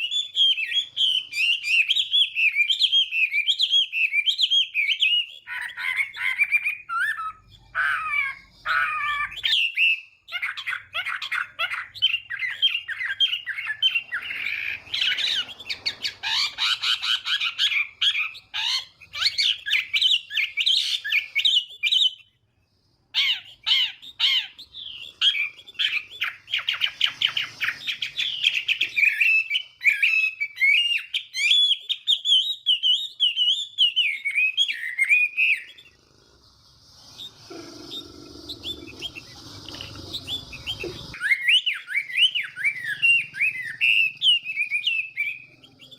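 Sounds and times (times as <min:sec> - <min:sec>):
bird singing whistled phrases: 0:00.0 - 0:22.4, 0:23.2 - 0:35.9, 0:38.6 - 0:45.9.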